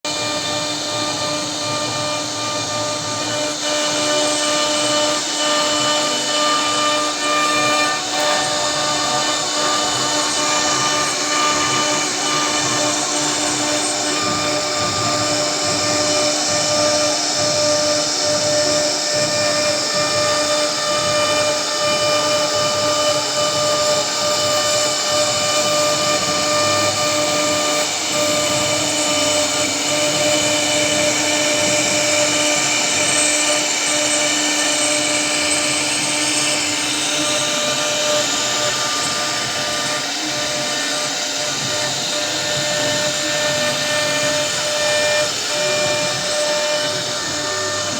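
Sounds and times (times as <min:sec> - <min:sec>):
router spindle whining while cutting wood: 0:00.0 - 0:47.9.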